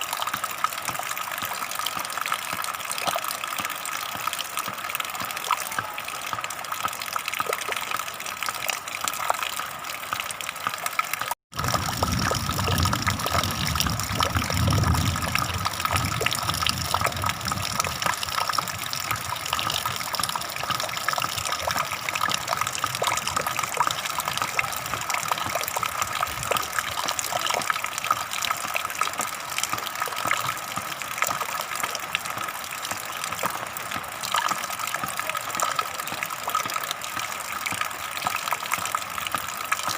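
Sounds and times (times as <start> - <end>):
water gushing: 0.0 - 39.9.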